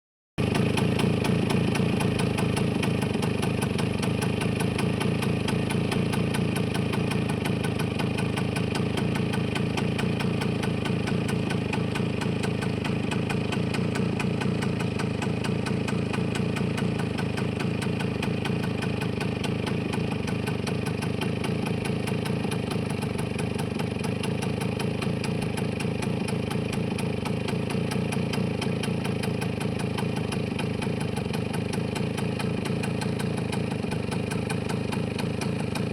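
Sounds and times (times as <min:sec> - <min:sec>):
engine idling: 0:00.4 - 0:35.9.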